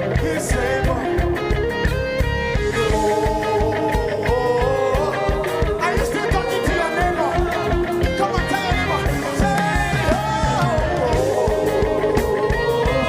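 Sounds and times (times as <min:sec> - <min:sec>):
gliding melodic lead line: 0:00.0 - 0:13.0
steady drum beat: 0:00.0 - 0:13.0
worship band music: 0:00.0 - 0:13.0.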